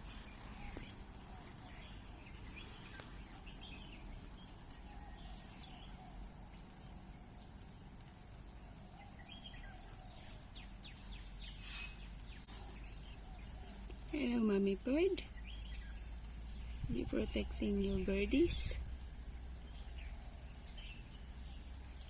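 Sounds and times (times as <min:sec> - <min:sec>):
faint bird chirps: 0:00.0 - 0:07.7, 0:08.4 - 0:22.0.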